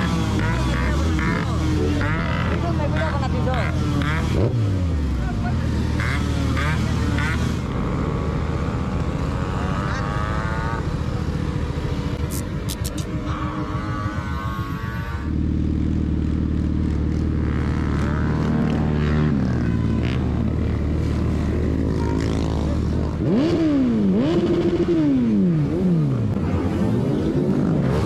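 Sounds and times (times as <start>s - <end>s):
vehicle engine idling and revving: 0.0s - 28.0s.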